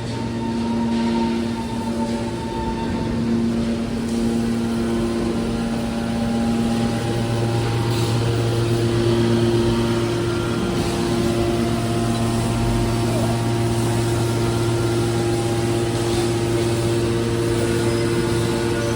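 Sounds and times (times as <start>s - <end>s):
hydraulic baler machine drone: 0.0s - 18.9s.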